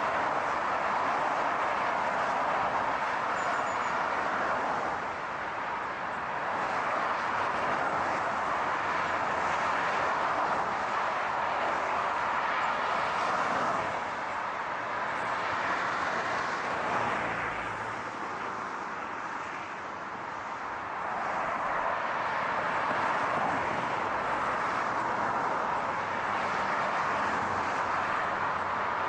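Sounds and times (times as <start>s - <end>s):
tyre and wind road noise: 0.0s - 29.0s.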